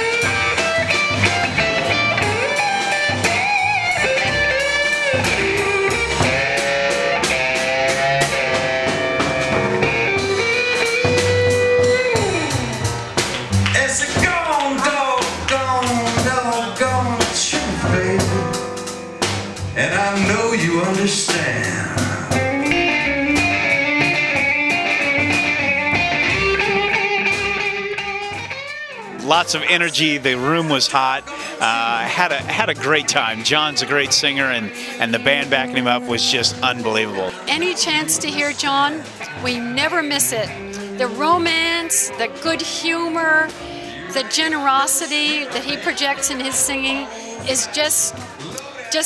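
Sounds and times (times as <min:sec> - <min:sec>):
electric guitar lead: 0:00.0 - 0:29.6, 0:31.2 - 0:48.7
band music with steady beat: 0:00.0 - 0:49.0
drums: 0:00.0 - 0:49.0
upright bass: 0:00.0 - 0:49.0.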